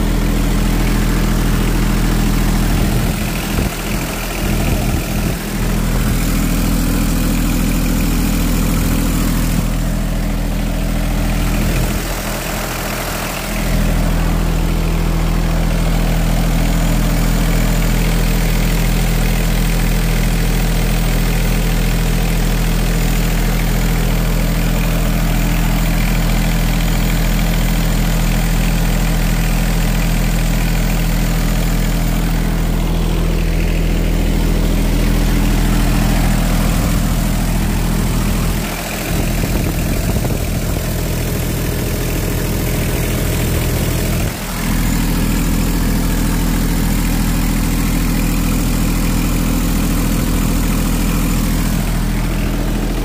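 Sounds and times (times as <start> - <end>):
cultivator engine idling: 0.0 - 53.0.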